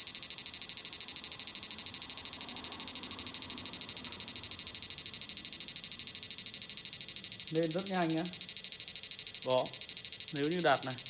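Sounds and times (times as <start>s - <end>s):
inverter pulsing high-pitched hiss: 0.0s - 11.0s.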